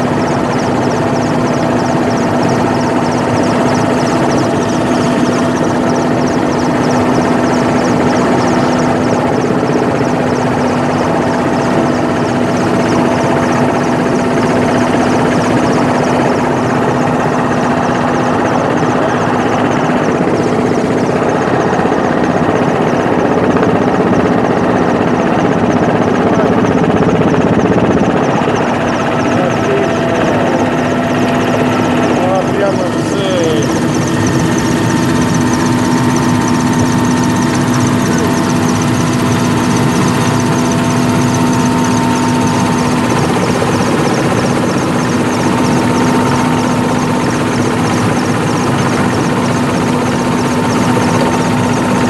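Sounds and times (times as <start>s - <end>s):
helicopter engine and rotor drone: 0.0s - 52.0s
high fluttering whine: 0.0s - 52.0s.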